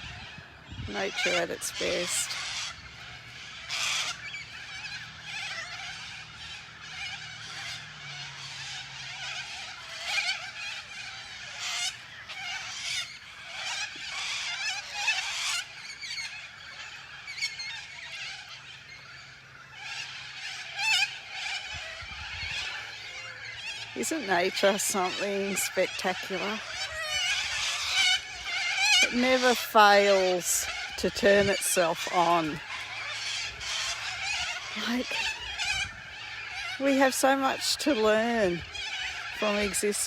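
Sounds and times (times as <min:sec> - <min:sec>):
chorus of high chirps and trills: 0:00.0 - 0:40.0.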